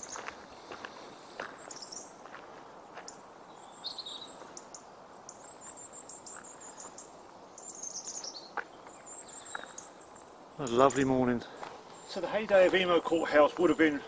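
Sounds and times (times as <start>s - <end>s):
faint outdoor hiss: 0.0s - 14.0s
songbirds singing: 0.0s - 14.0s.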